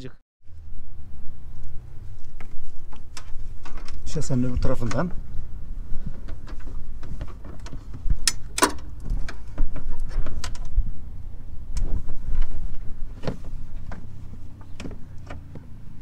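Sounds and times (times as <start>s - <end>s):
constant low rumble: 0.0s - 16.0s.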